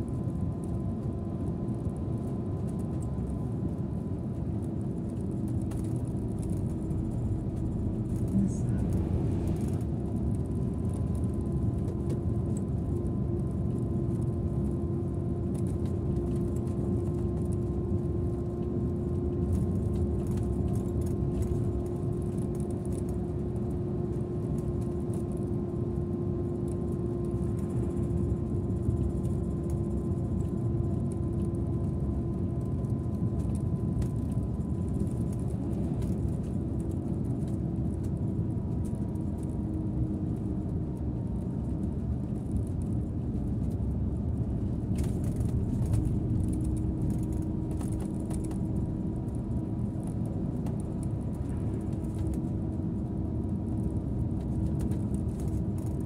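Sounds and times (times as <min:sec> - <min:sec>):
bus engine and road rumble: 0:00.0 - 0:56.0
steady whine: 0:00.0 - 0:56.0.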